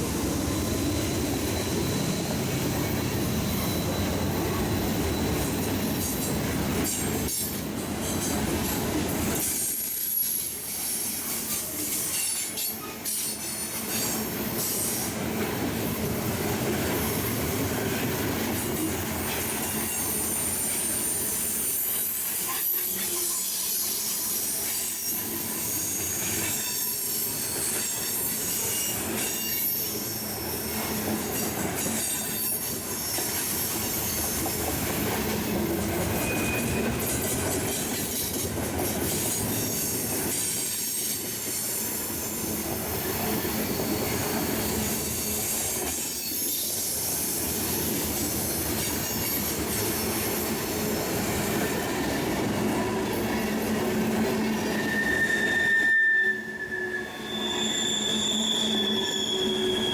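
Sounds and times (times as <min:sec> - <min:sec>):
train wheels squealing on rails: 0:00.0 - 0:59.9.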